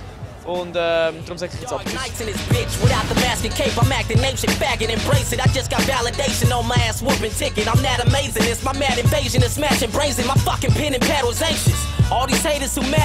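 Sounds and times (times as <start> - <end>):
person rapping over a beat: 1.6 - 13.0.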